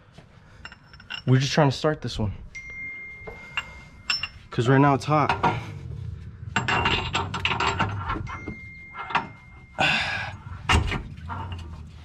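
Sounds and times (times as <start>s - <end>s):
metal tools clanking: 0.6s - 1.7s, 2.6s - 12.0s.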